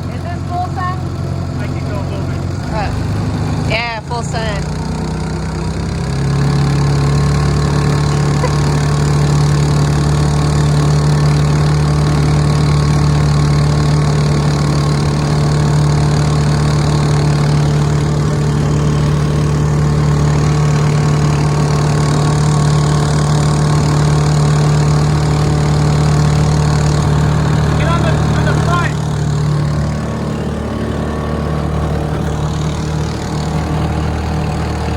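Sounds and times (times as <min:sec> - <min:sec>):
outboard motor at full throttle: 0:00.0 - 0:34.9.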